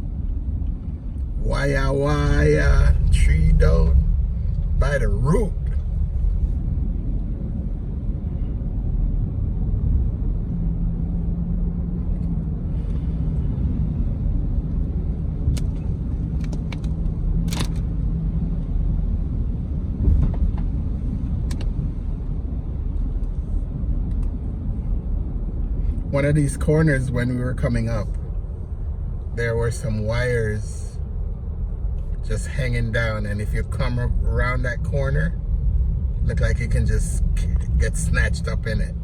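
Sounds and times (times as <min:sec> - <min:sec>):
road and engine rumble in car: 0:00.0 - 0:39.0.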